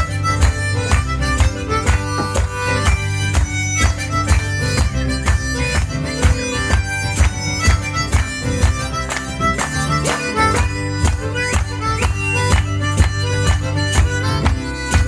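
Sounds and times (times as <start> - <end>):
fast folk tune melody: 0.0 - 15.0.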